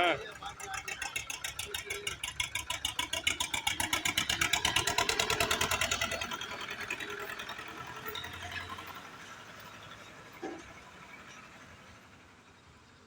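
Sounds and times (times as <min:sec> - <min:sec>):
tractor diesel engine chugging: 0:00.0 - 0:13.0.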